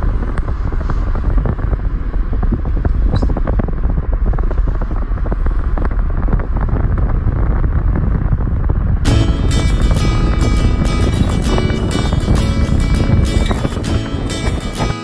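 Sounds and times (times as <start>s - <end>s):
car driving on paved road: 0.0s - 15.0s
wind buffeting microphone: 0.0s - 15.0s.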